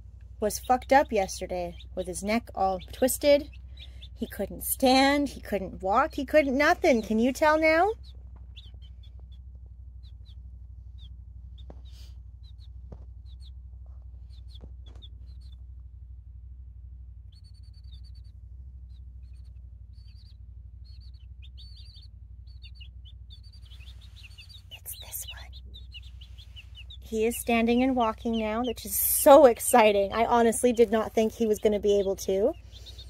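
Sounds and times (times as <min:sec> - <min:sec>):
steady low hum: 0:00.0 - 0:33.0
chicks peeping: 0:00.5 - 0:09.4, 0:10.0 - 0:15.6, 0:17.3 - 0:18.3, 0:18.9 - 0:33.0.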